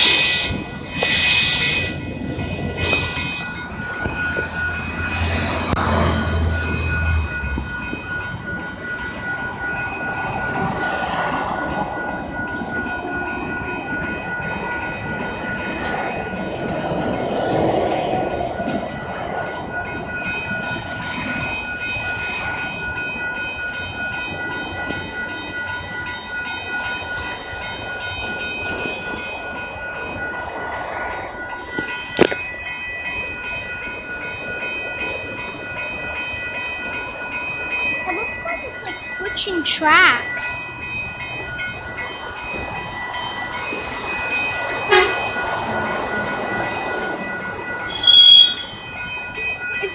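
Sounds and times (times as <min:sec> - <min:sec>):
crossing warning bell ringing: 0:00.0 - 0:49.9
train wheels clattering on rails: 0:00.0 - 0:49.9.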